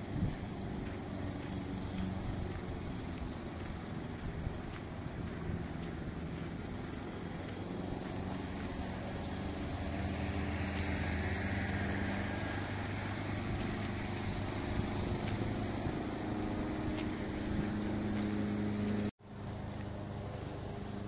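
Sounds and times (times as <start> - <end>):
motor engine humming: 0.0 - 21.0.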